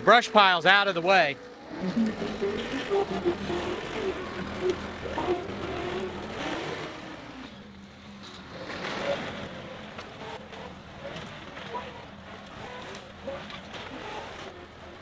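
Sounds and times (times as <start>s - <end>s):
loader diesel engine running: 0.0s - 15.0s.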